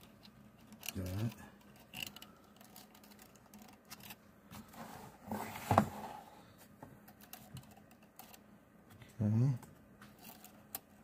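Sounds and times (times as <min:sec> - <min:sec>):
hands handling cable and plastic: 0:00.0 - 0:06.0, 0:06.6 - 0:08.4, 0:10.0 - 0:11.0.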